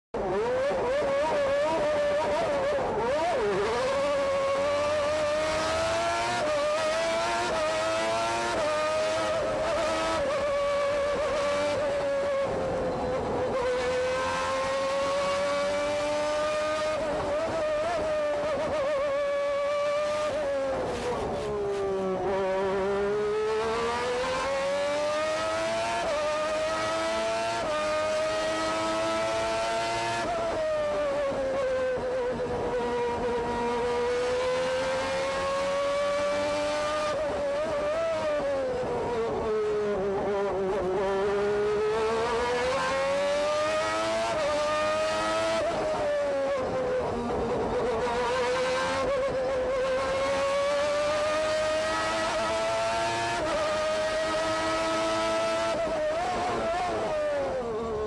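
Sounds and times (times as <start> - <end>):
racing car engine revving: 0.2 - 58.0.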